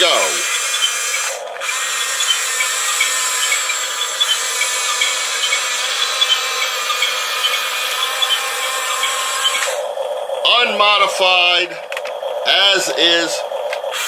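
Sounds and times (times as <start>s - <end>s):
gears and tracks ticking: 0.0s - 14.0s
toy bulldozer motor whirring: 0.0s - 14.0s.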